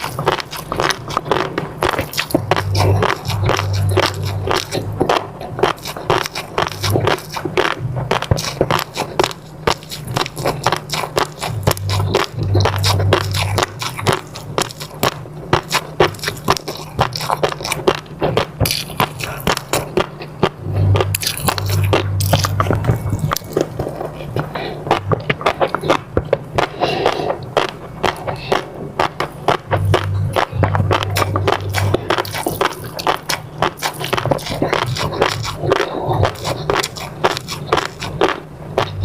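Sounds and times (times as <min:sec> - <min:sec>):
wet chewing with clicks and smacks: 0:00.0 - 0:39.0.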